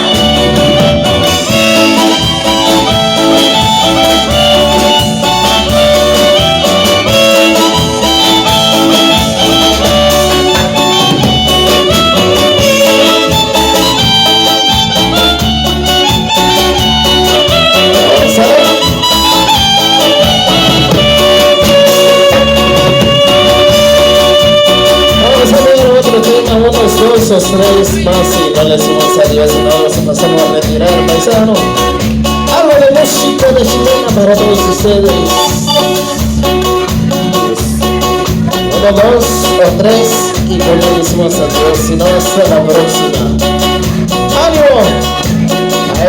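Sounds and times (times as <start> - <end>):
band playing dance music: 0.0 - 46.0.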